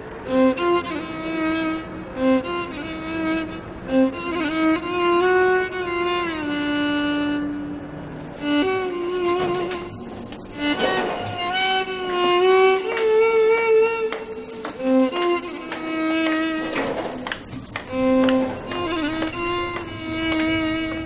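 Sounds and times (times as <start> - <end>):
slow string melody: 0.0 - 21.0.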